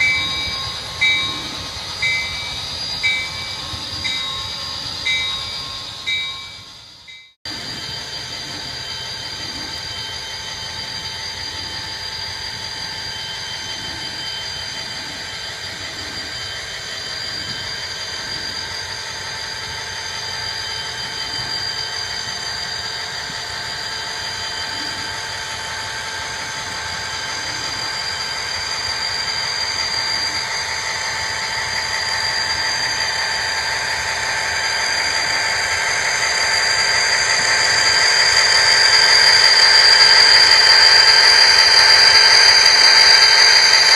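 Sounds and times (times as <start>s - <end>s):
steady whine: 0.0s - 43.9s.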